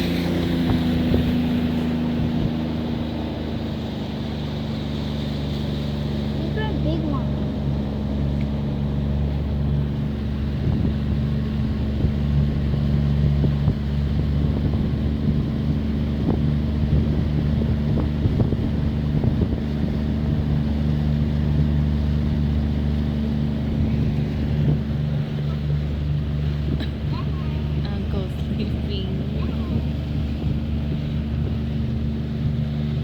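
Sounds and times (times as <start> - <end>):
outboard motor humming: 0.0 - 33.0
wind buffeting microphone: 0.0 - 33.0.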